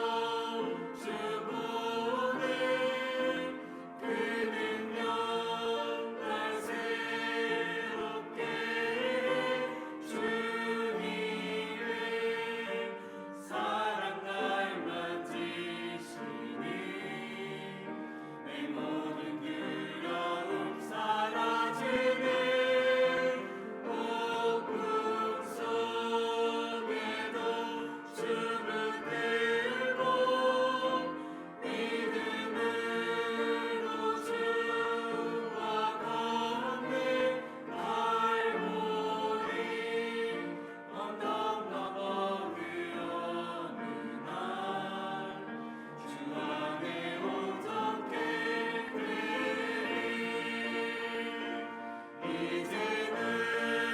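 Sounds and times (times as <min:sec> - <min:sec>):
church choir singing: 0:00.0 - 0:53.9.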